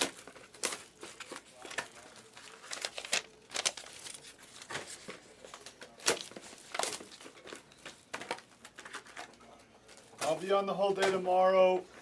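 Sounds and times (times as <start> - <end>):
plastic wrapping tearing and crinkling: 0.0 - 11.2.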